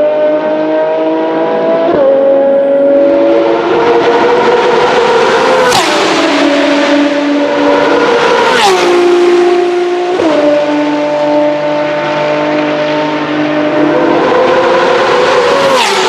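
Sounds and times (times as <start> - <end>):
race cars passing at high speed: 0.0 - 16.0.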